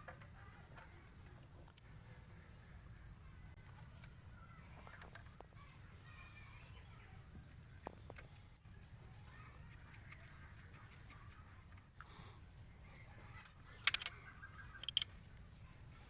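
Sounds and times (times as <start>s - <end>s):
distant bird calls: 0.0s - 16.0s.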